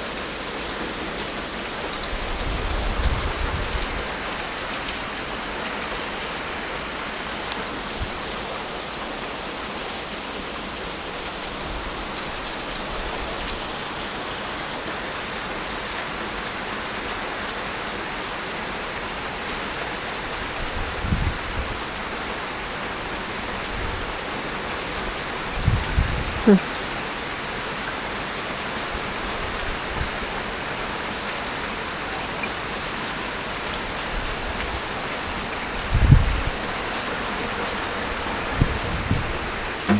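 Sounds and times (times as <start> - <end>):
hard rain falling: 0.0 - 39.9.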